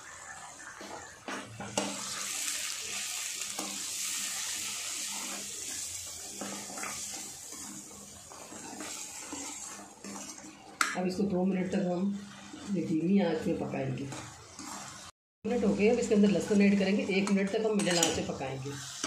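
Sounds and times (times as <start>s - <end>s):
spices sizzling in a pan: 0.0s - 19.0s.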